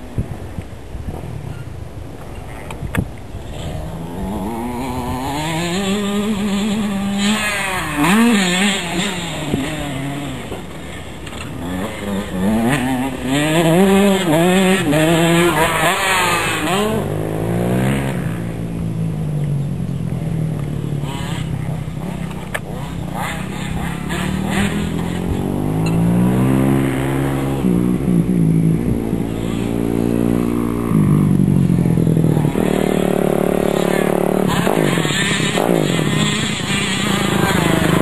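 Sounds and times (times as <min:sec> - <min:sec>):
motocross bike engine revving: 0:03.4 - 0:38.0.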